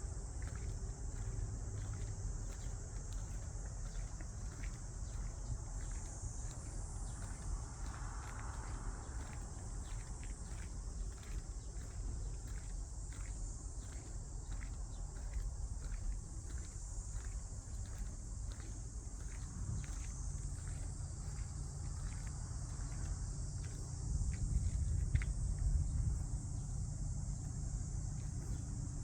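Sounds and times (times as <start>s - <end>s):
constant low rumble: 0.0s - 29.0s
crickets chirring: 0.0s - 29.0s.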